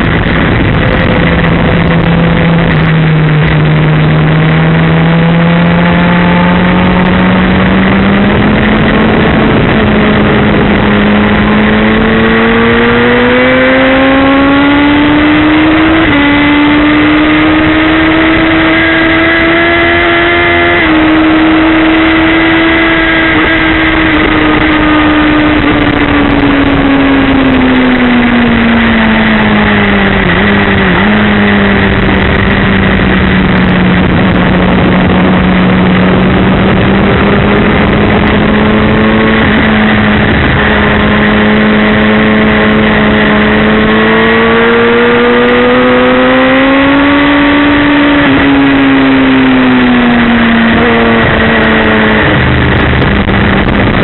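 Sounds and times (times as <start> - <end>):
motorcycle engine at speed: 0.0 - 54.0
wind rush: 0.0 - 54.0.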